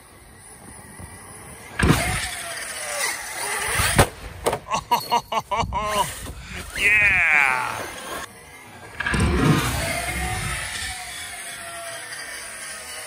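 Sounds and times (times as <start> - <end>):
electric motor whine: 0.0 - 4.0, 6.0 - 13.0.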